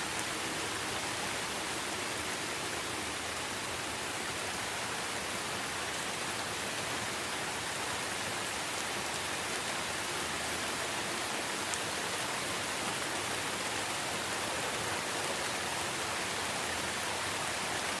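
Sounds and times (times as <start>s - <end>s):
steady rain-like hiss: 0.0s - 18.0s.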